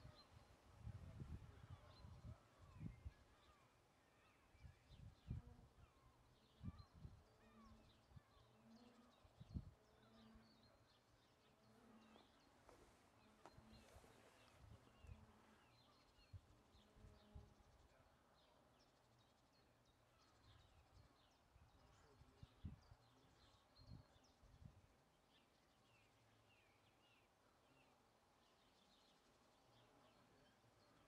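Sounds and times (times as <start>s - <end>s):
faint songbirds chirping: 0.0s - 31.0s.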